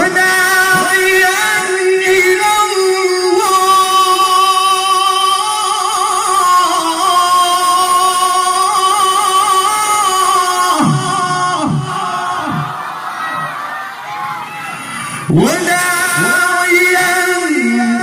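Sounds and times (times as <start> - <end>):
man reciting melodically: 0.0 - 12.8, 15.1 - 18.0.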